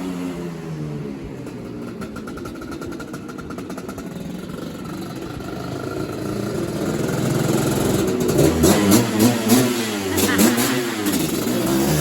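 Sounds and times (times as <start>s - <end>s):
two-stroke quad engine revving: 0.0s - 12.0s.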